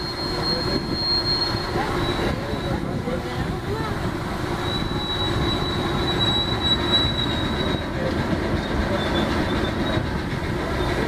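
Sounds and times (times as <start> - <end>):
high wheel squeal: 0.0 - 3.3, 4.4 - 11.0
train wheels rumbling on rail: 0.0 - 11.0.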